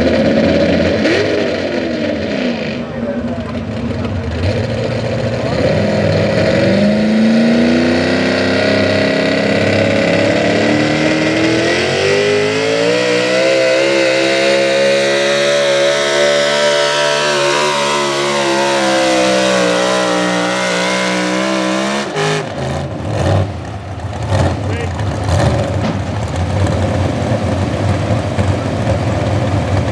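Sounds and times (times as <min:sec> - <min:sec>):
truck engine running flat out: 0:00.0 - 0:29.9.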